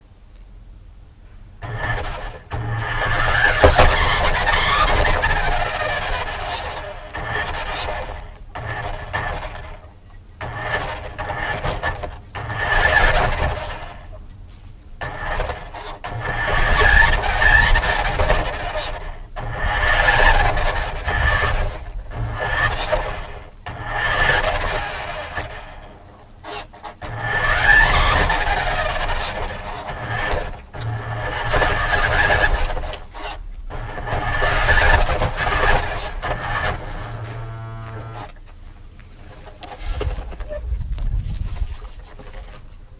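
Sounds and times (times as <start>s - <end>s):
rc car motor and tyre noise: 1.6s - 14.2s, 15.0s - 42.7s
wheels rolling and scraping: 1.6s - 42.9s.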